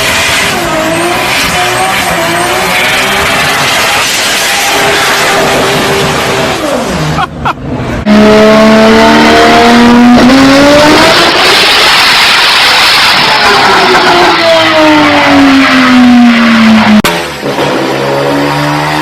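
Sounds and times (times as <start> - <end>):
turbocharged car engine revving: 0.0 - 19.0.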